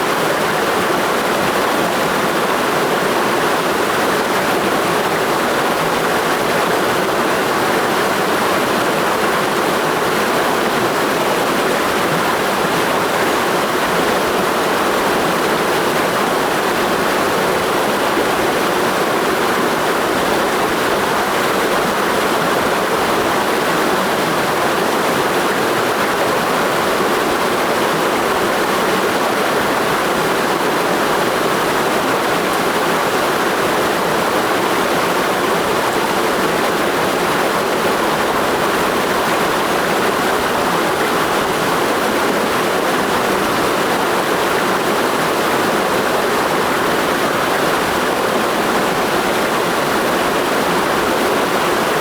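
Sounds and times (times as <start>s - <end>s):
river rushing over rocks: 0.0s - 52.0s.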